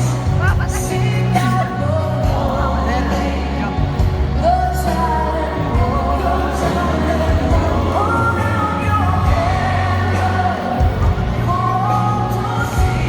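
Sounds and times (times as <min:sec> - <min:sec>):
pop song over loudspeakers: 0:00.0 - 0:13.0.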